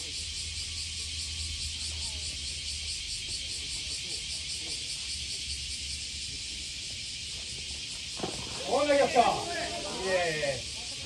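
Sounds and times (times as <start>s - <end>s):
cicadas droning: 0.0s - 11.0s
faint distant voices: 1.6s - 11.0s.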